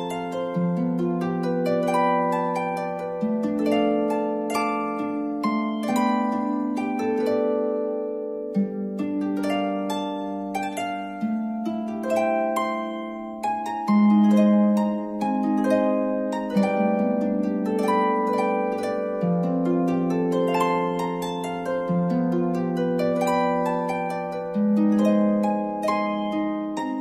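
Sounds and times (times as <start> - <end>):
harp-like plucked melody: 0.0 - 27.0.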